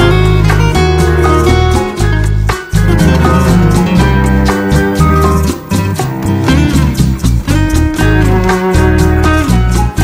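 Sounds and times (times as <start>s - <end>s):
acoustic guitar music: 0.1s - 9.5s.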